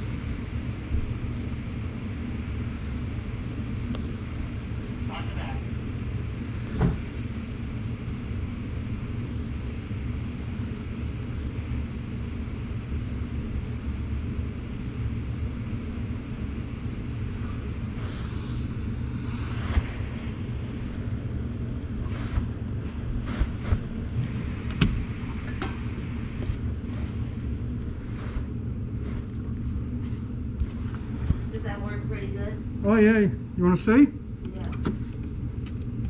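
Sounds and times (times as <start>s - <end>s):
carpet cleaning machine rumbling: 0.0s - 36.0s.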